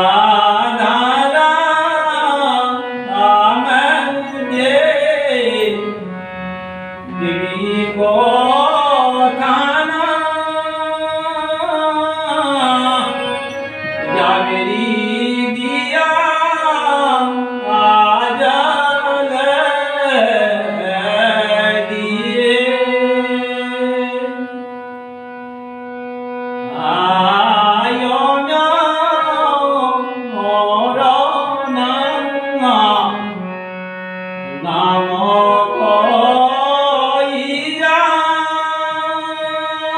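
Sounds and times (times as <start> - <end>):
man singing long held notes: 0.0 - 6.4, 7.0 - 25.0, 26.6 - 33.7, 34.4 - 39.9.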